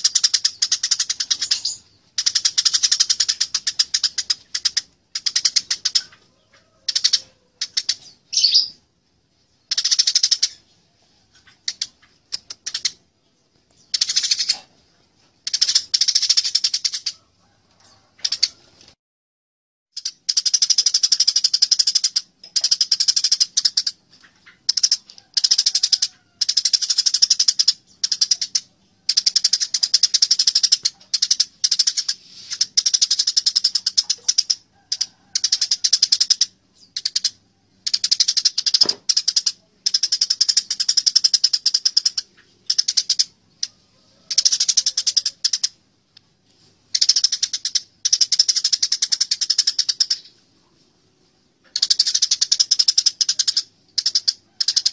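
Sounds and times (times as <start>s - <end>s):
sparrows chattering: 0.0s - 8.8s, 9.4s - 18.6s, 20.0s - 45.8s, 46.6s - 50.9s, 51.6s - 54.9s.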